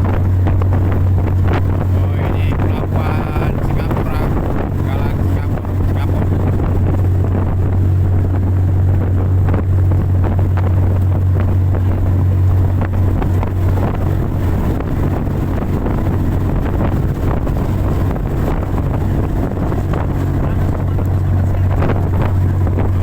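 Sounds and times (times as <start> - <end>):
boat engine droning: 0.0 - 23.0
rushing water: 0.0 - 23.0
wind buffeting microphone: 0.0 - 23.0.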